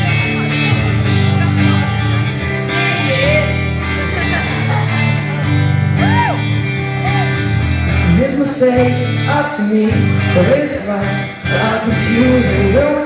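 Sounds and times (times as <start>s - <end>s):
strummed guitar: 0.0s - 13.0s
sustained bass notes: 0.0s - 13.0s.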